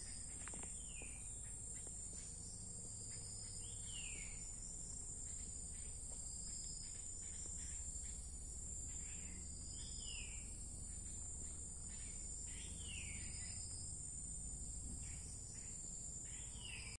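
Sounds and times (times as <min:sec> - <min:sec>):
chorus of forest insects: 0:00.0 - 0:16.9.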